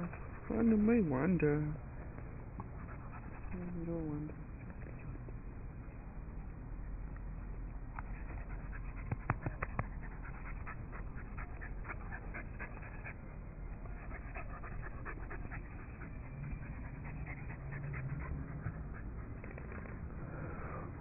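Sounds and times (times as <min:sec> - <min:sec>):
dog panting: 0:00.0 - 0:05.2, 0:07.1 - 0:20.3.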